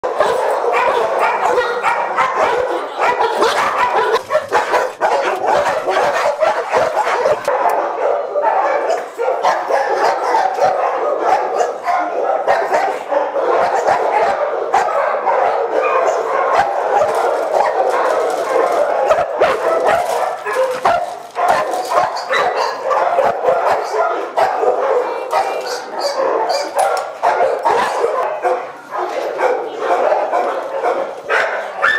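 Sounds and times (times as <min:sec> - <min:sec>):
many dogs barking: 0:00.0 - 0:31.9.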